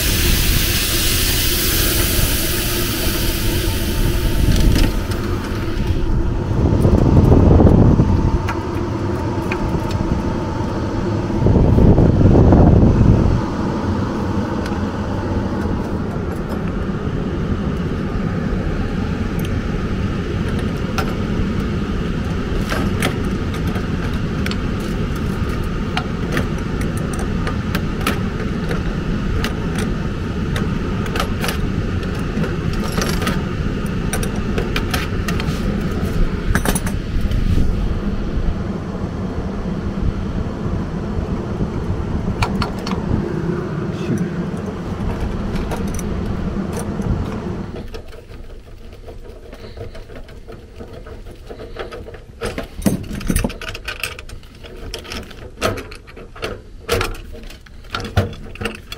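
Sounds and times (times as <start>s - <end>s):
low rumble: 0.0s - 51.8s.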